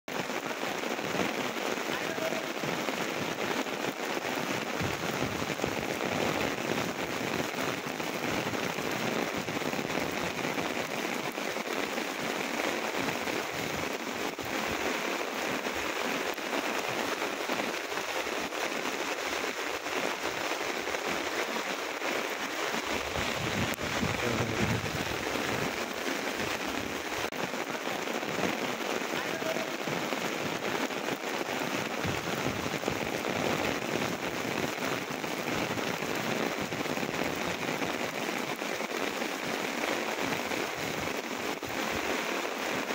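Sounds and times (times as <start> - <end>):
heavy rain pattering on water: 0.1 - 42.9.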